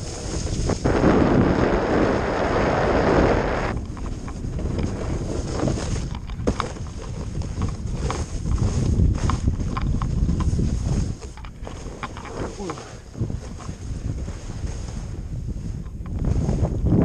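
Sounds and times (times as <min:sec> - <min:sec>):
skis sliding on packed snow: 0:00.0 - 0:16.7
wind buffeting microphone: 0:00.0 - 0:17.0.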